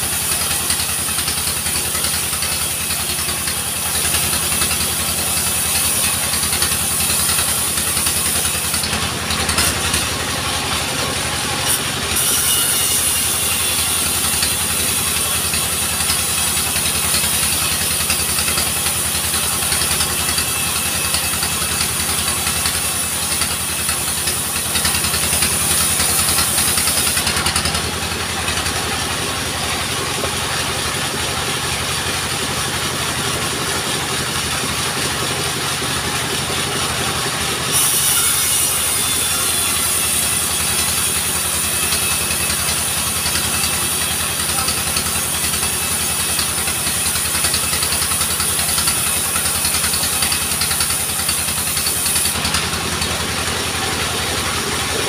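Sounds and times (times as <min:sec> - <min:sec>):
saw blade cutting log: 0:00.0 - 0:55.0
sawmill engine running: 0:00.0 - 0:55.0.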